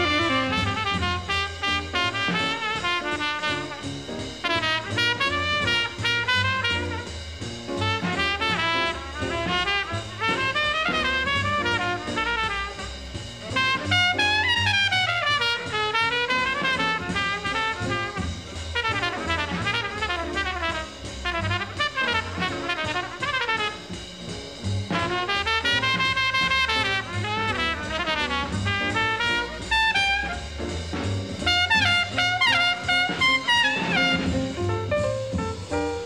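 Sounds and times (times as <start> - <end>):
instrumental background music: 0.0 - 36.0.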